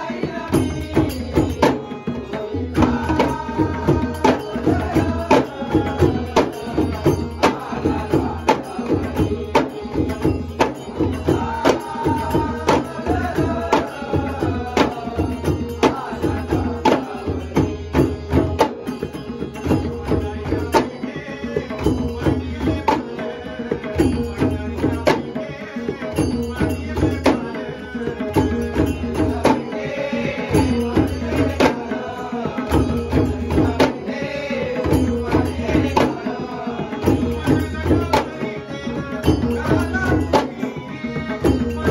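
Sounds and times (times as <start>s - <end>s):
harmonium: 0.0s - 41.9s
man singing: 0.0s - 41.9s.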